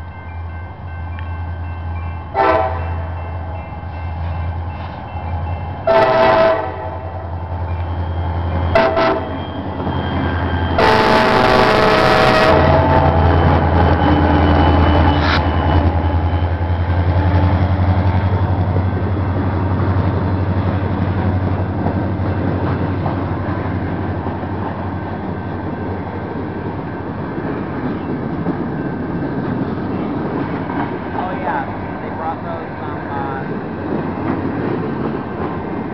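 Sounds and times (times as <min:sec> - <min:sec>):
diesel locomotive engines rumbling: 0:00.0 - 0:35.9
train wheels rolling on rail: 0:00.0 - 0:35.9.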